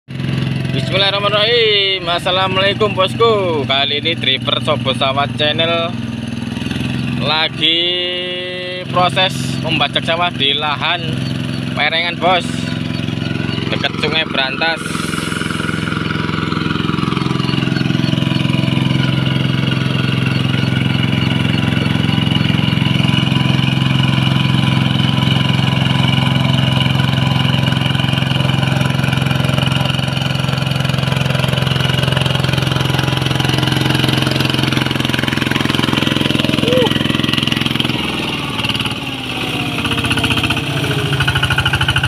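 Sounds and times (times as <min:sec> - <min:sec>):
diesel engine running under load: 0:00.1 - 0:42.0.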